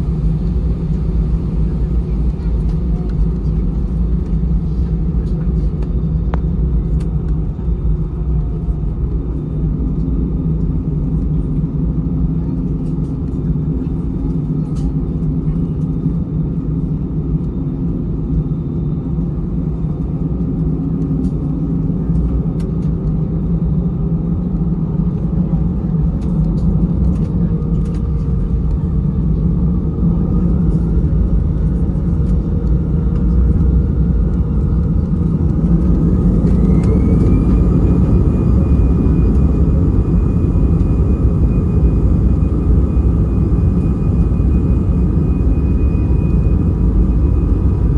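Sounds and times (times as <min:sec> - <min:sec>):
jet engine rumble: 0:00.0 - 0:47.9
jet engine whine: 0:00.0 - 0:47.9.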